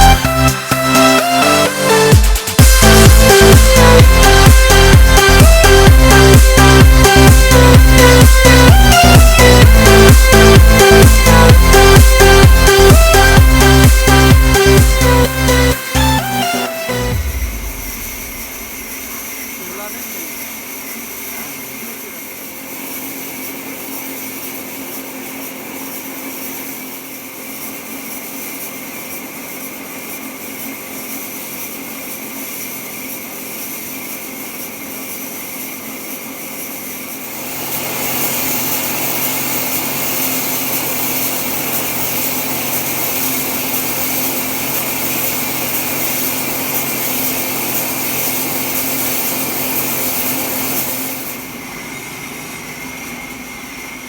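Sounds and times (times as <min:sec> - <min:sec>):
powered wood saw cutting: 0:00.0 - 0:54.0.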